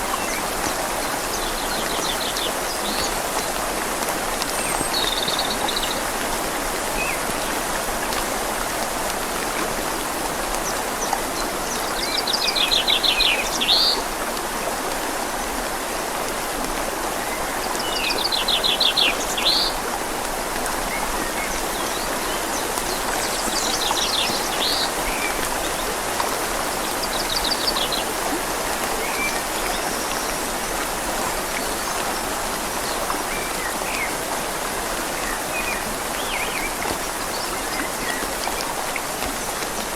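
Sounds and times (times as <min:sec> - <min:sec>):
rain falling on leaves: 0:00.0 - 0:39.9
river flowing: 0:00.0 - 0:39.9.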